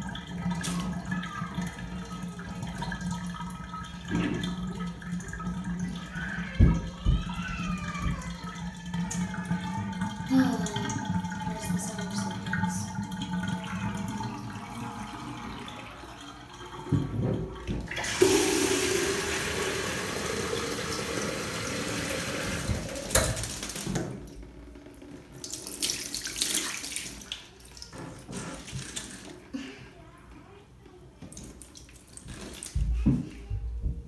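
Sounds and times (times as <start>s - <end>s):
water splashing in tub: 0.0s - 24.4s, 25.3s - 29.5s, 31.3s - 33.5s
water running from bathtub tap: 0.0s - 29.6s, 31.2s - 33.9s.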